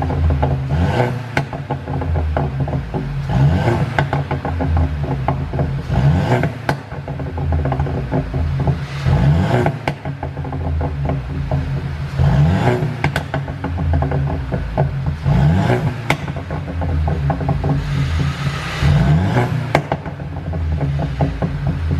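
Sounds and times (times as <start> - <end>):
car engine idling and revving: 0.0 - 21.9
exhaust pops and crackles: 0.0 - 21.9.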